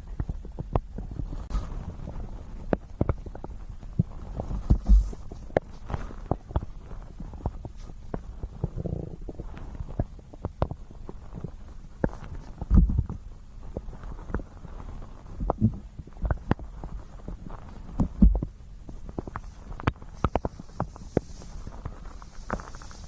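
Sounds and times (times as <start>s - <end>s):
stomach gurgling: 0.0s - 23.0s.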